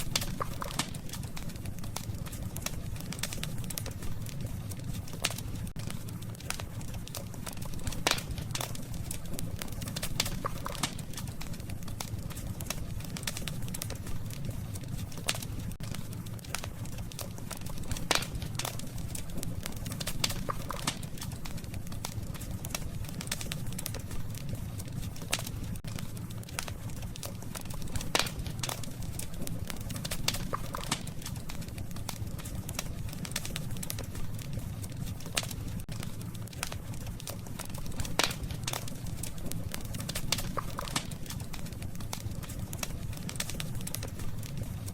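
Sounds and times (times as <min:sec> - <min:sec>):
campfire crackling and popping: 0:00.0 - 0:44.9
low rumble of burning fire: 0:00.0 - 0:44.9.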